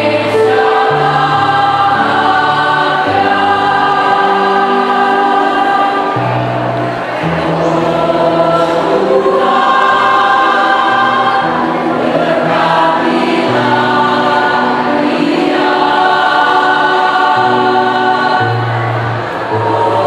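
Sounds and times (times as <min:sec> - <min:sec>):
mixed choir singing chords: 0:00.0 - 0:20.0.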